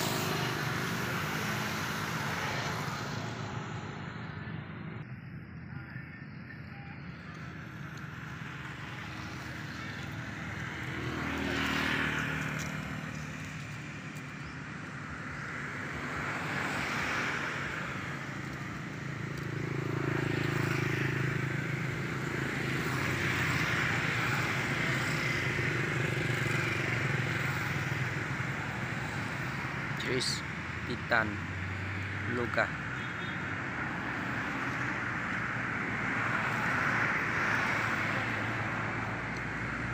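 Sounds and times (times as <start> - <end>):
motor vehicles passing: 0.0 - 39.9.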